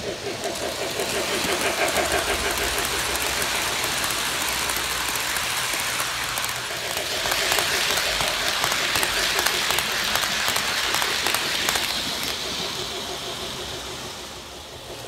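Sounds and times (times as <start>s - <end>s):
toy train wheels clicking on track: 0.0s - 15.0s.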